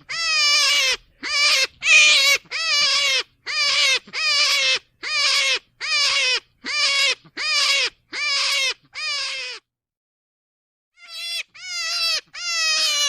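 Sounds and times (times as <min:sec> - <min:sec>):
rabbit high-pitched cries: 0:00.0 - 0:09.7, 0:11.0 - 0:13.0.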